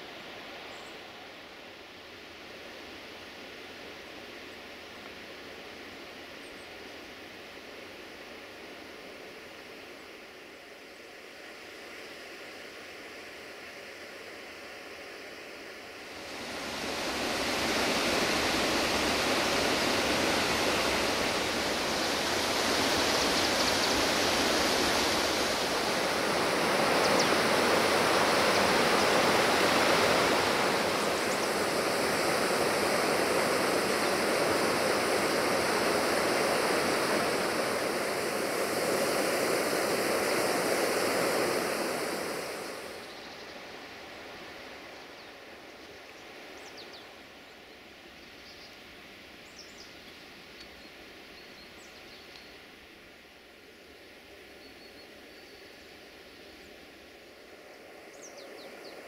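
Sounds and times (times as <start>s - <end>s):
rushing stream and waterfall: 0.0s - 59.0s.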